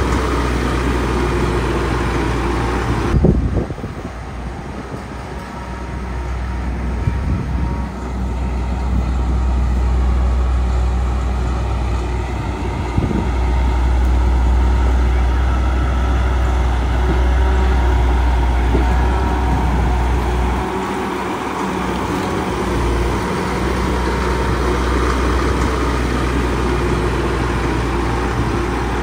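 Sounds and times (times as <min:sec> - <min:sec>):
diesel machinery engine rumble: 0:00.0 - 0:29.0.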